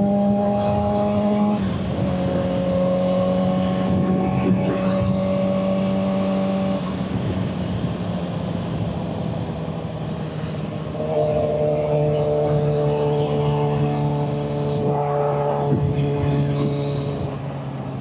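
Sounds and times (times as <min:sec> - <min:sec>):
motorcycle engine running: 0:00.0 - 0:18.0
wind noise: 0:00.0 - 0:18.0.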